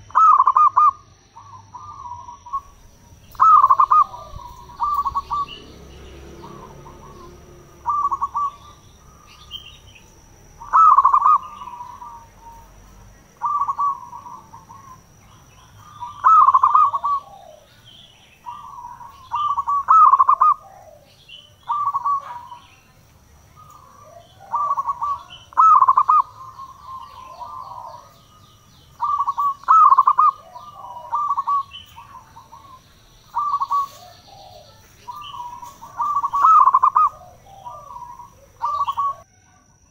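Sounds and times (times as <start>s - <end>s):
dove cooing: 0.0s - 39.3s.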